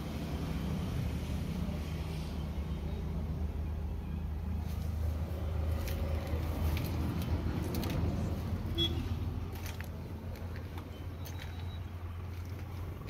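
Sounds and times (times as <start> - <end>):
harvester engine idling: 0.0 - 13.0.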